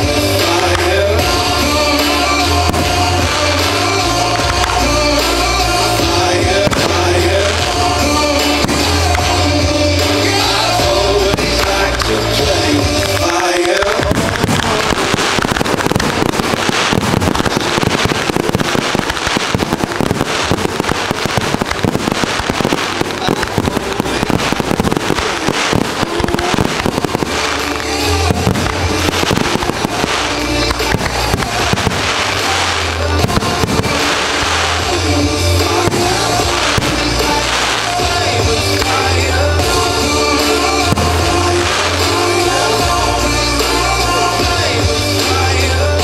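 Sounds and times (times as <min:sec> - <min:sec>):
fireworks bursting and crackling: 0:00.0 - 0:46.0
music playing: 0:00.0 - 0:46.0.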